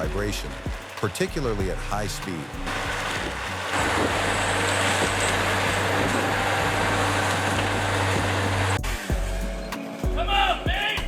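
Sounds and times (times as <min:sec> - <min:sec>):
low hum: 0:00.0 - 0:09.7
heavy vehicle engine running: 0:00.1 - 0:09.0.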